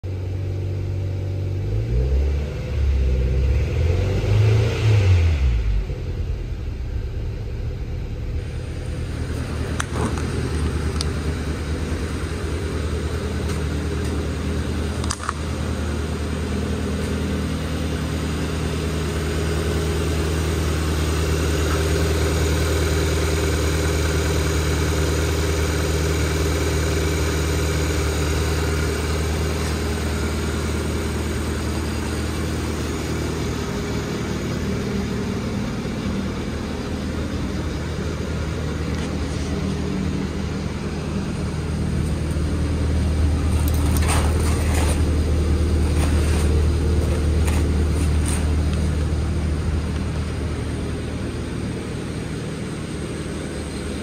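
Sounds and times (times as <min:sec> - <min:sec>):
car engine revving and idling: 0:00.0 - 0:54.0.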